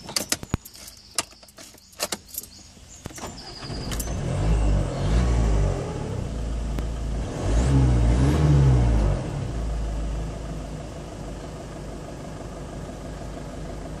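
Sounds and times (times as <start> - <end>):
car engine revving and idling: 2.5 - 14.0.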